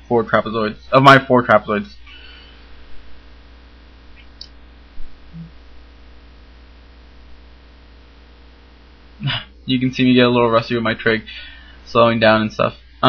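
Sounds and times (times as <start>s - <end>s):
faint low sound: 0.0s - 12.5s
faint background hiss: 0.0s - 13.0s
low electrical hum: 0.0s - 13.0s.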